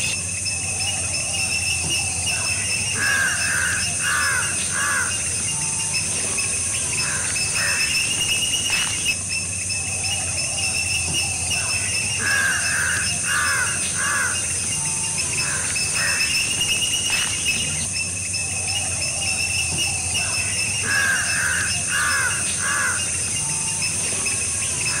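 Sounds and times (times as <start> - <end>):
bird harsh calls: 0.0 - 25.0
steady high-pitched hiss: 0.0 - 25.0.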